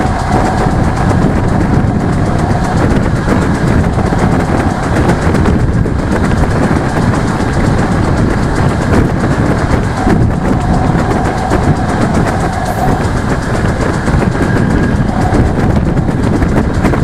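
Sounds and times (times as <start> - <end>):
diesel engine: 0.0 - 17.0
train wheels rumbling on rails: 0.0 - 17.0.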